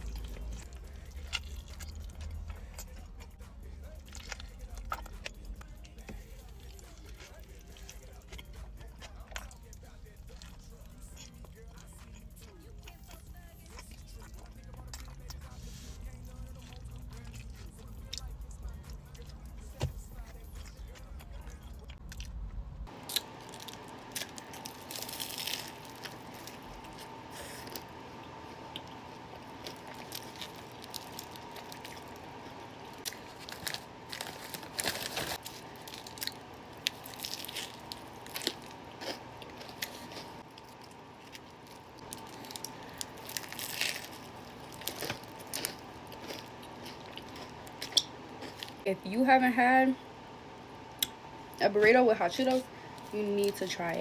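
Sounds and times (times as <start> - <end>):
person chewing crunchy food: 0.0 - 48.9
faint steady hum: 0.0 - 54.0.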